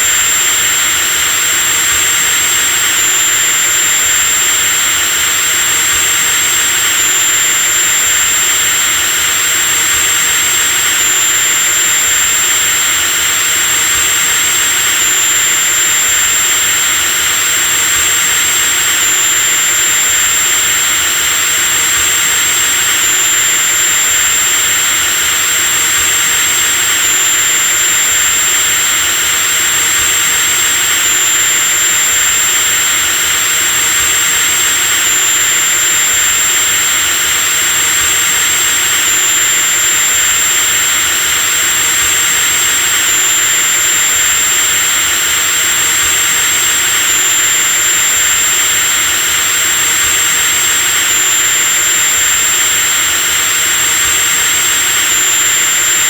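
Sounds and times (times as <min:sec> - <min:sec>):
electric drill whining: 0:00.0 - 0:56.0.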